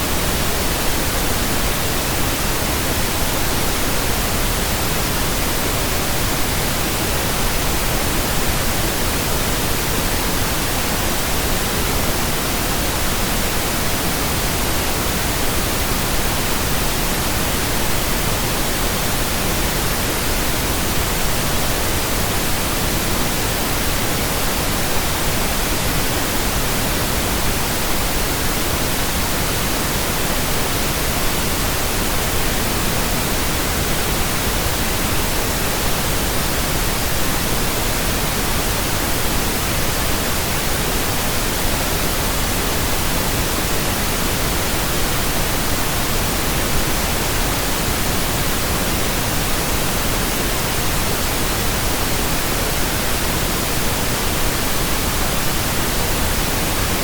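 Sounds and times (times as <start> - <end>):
pink noise static hiss: 0.0 - 57.0.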